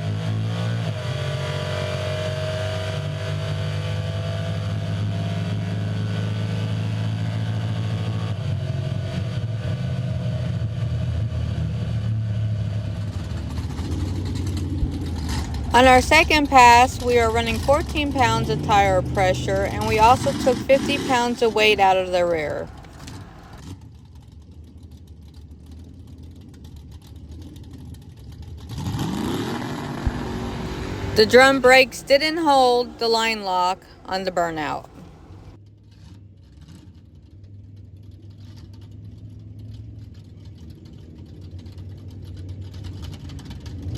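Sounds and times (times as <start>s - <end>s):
car engine running at low revs: 0.0s - 43.9s.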